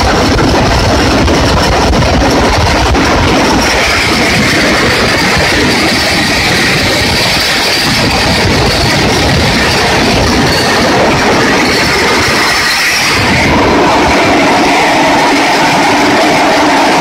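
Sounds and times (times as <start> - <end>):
metal rollers rattling on rail: 0.0 - 17.0
steady high whine: 0.0 - 17.0.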